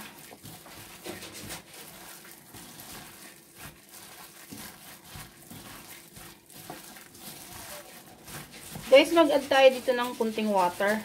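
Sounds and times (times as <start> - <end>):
hand squishing wet food mixture: 0.0 - 11.0.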